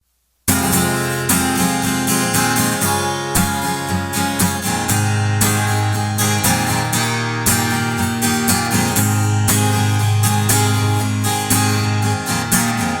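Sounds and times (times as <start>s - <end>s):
acoustic guitar strumming: 0.5s - 13.0s.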